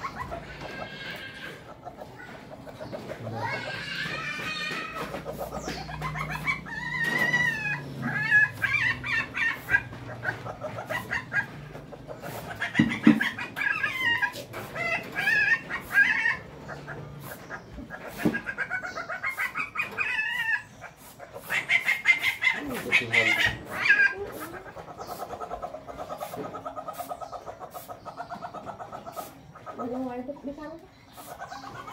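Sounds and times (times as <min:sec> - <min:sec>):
high wavering animal calls: 0:00.0 - 0:31.9.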